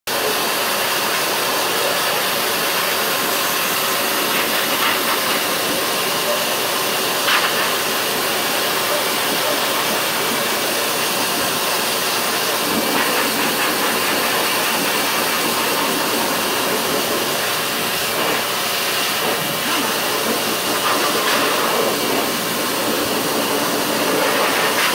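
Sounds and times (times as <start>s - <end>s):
pet dryer blowing air: 0.1s - 24.9s.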